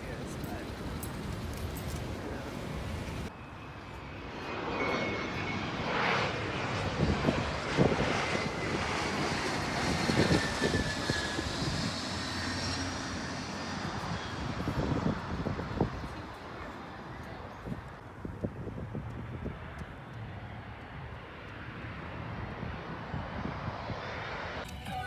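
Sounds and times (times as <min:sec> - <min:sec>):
airplane engines overhead: 0:00.0 - 0:25.0.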